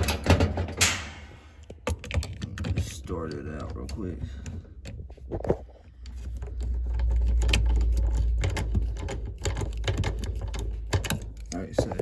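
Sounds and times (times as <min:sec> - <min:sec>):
plastic and metal clicking and rattling: 0:00.0 - 0:12.0.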